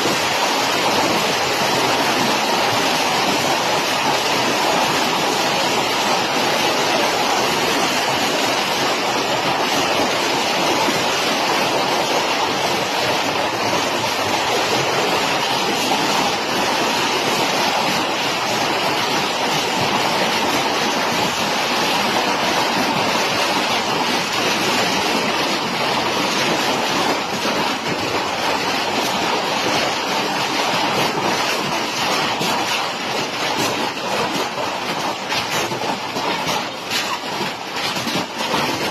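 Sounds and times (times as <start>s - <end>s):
hail and rain pounding down: 0.0s - 38.9s.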